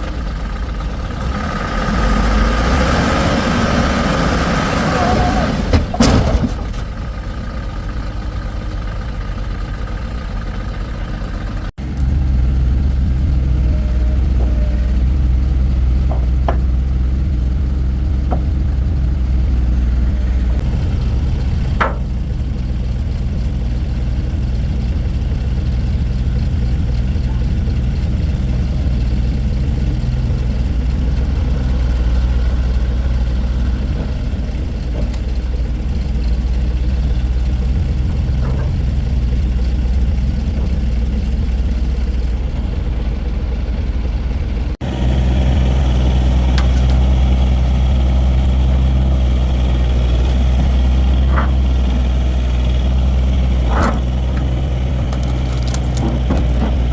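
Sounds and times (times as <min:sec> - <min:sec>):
vehicle engine idling: 0:00.0 - 0:56.9.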